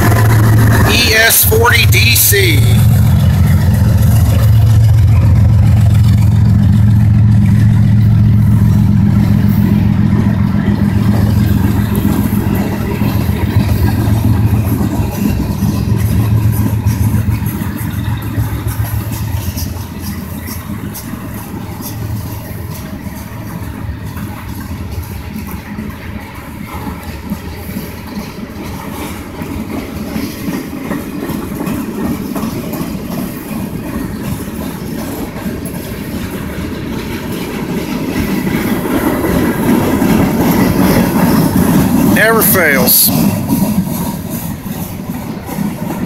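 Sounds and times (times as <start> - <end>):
train wheels clattering on rails: 0.0 - 0.9, 2.8 - 42.2, 43.1 - 46.0
diesel locomotive engine drone: 0.0 - 46.0.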